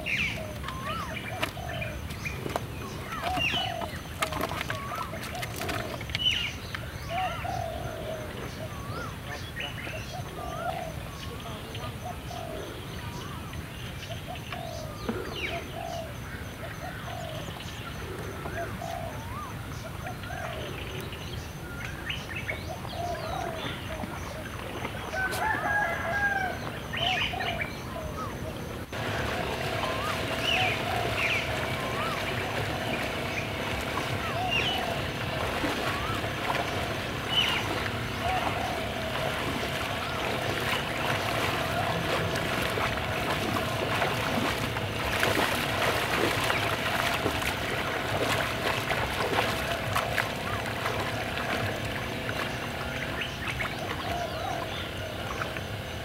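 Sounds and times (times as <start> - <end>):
birds chirping: 0.0 - 56.0
legs splashing through water: 0.0 - 56.0.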